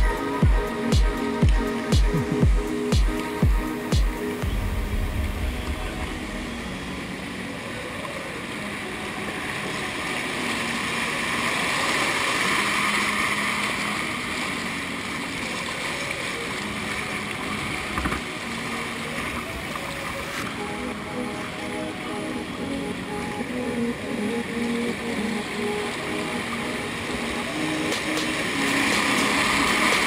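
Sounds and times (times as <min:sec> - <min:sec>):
whitewater rushing: 0:00.0 - 0:30.0.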